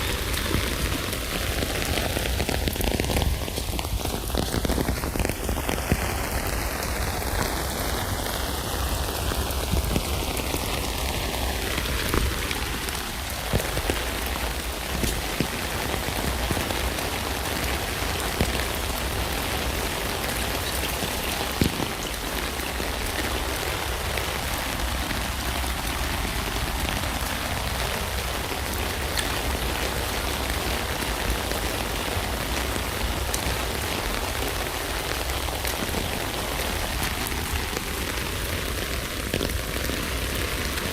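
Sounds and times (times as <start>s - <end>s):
rain falling on a tent: 0.0s - 40.9s.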